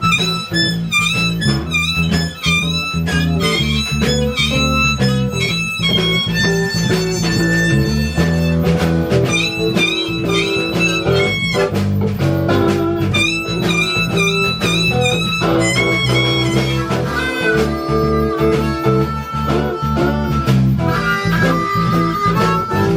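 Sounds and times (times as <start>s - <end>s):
blues band playing: 0.0s - 22.9s
guitar: 0.0s - 22.9s
harmonica: 0.0s - 22.9s.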